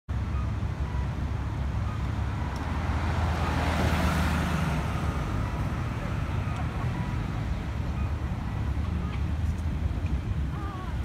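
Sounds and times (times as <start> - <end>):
traffic engine rumble: 0.1 - 11.0.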